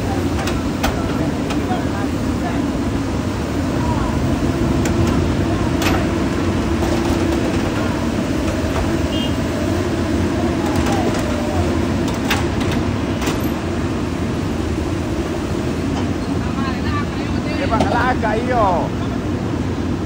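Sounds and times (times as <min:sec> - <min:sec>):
excavator diesel engines running: 0:00.0 - 0:20.0.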